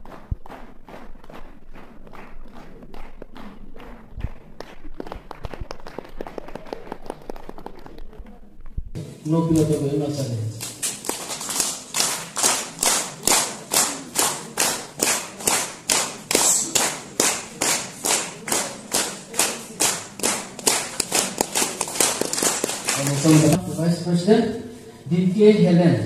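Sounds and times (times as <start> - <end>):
hands clapping steadily: 0.0 - 8.4, 9.4 - 9.8, 10.5 - 23.6.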